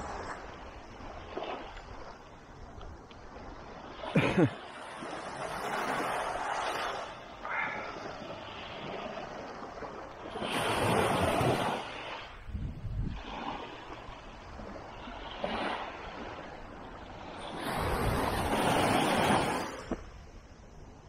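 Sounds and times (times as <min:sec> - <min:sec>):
small waves breaking on beach: 0:00.0 - 0:21.0
wind rumbling on microphone: 0:00.0 - 0:21.0.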